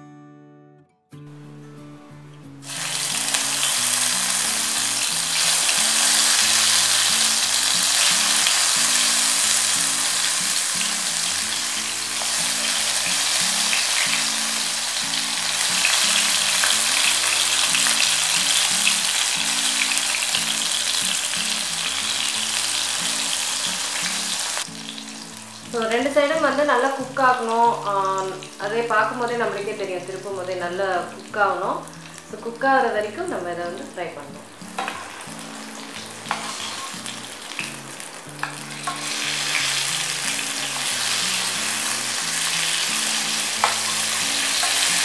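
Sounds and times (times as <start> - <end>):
slices sizzling in hot oil: 2.6 - 29.2, 34.6 - 45.0.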